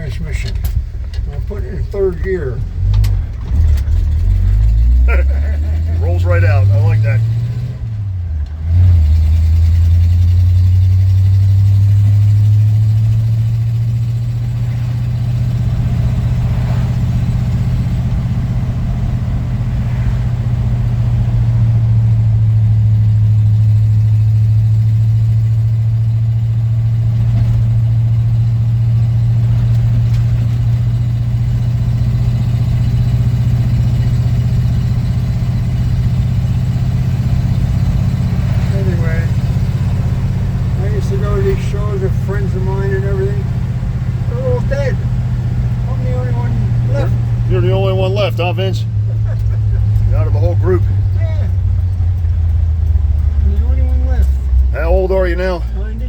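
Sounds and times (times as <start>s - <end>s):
pickup truck engine drone: 0.0s - 56.0s.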